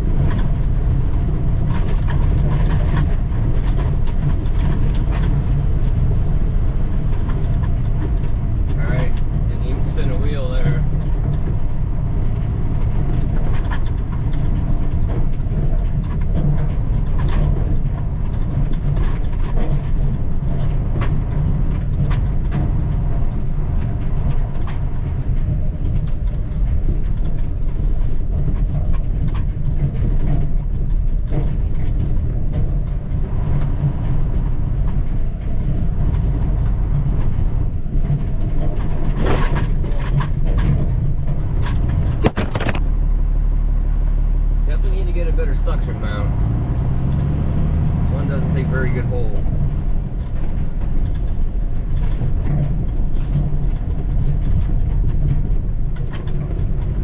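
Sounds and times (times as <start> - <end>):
rattles and knocks from truck load: 0.0 - 43.0, 44.6 - 57.0
diesel truck engine running: 0.0 - 57.0.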